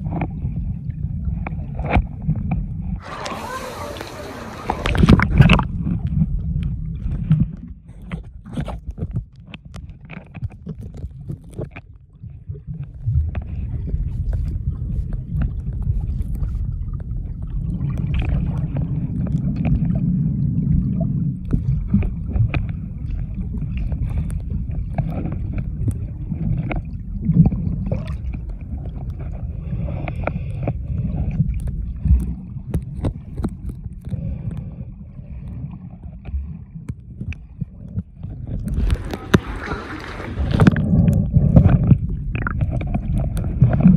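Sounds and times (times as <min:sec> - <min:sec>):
underwater rumbling wash: 0:00.0 - 0:43.9
bubbles clicking and crackling: 0:03.0 - 0:43.9.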